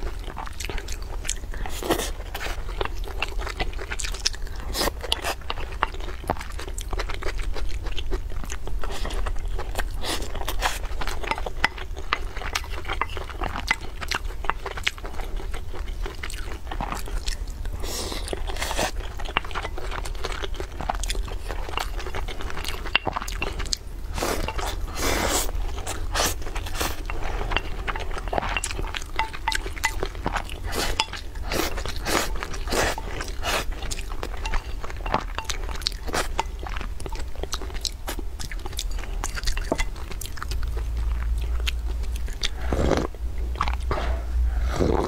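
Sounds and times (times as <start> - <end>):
wet chewing with smacks and clicks: 0.0 - 44.0.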